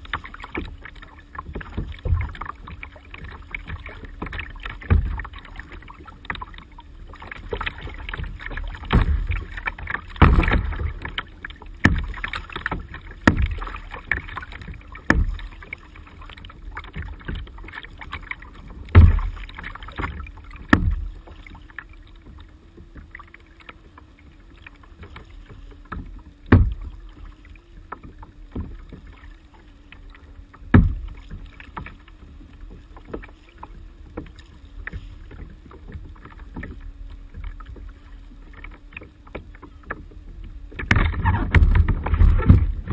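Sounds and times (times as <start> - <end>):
paddle strokes splashing in water: 0.0 - 42.9.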